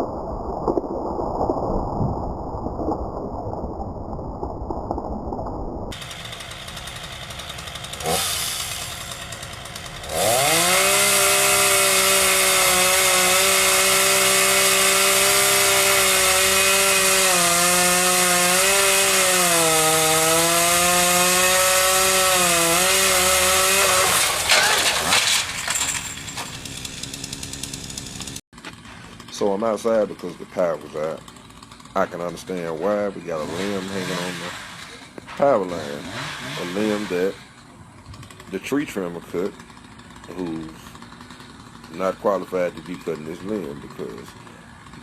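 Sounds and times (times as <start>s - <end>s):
chainsaw running at high revs: 5.9s - 45.0s.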